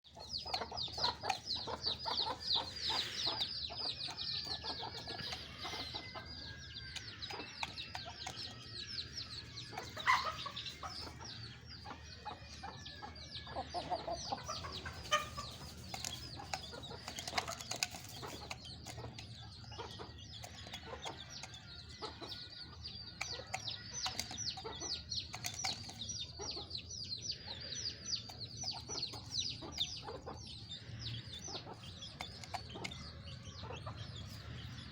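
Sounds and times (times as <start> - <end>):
birds chirping: 0.0 - 34.9
loud bird calls: 0.0 - 34.9.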